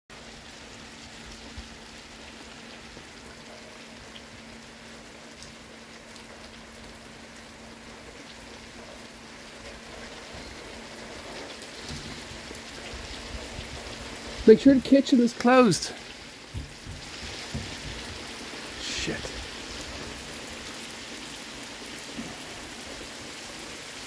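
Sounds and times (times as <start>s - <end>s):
steady rain hiss: 0.1s - 24.0s
raindrop ticks: 1.2s - 23.6s.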